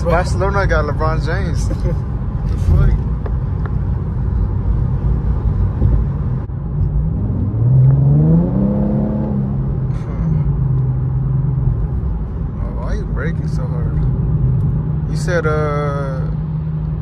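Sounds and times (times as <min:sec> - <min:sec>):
car engine revving: 0:00.0 - 0:17.0
road rumble: 0:00.0 - 0:17.0.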